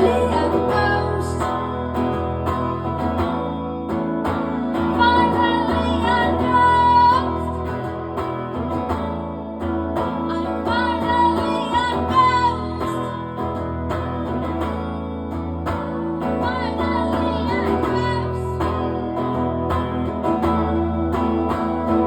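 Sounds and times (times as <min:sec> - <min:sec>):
guitar accompaniment: 0:00.0 - 0:22.0.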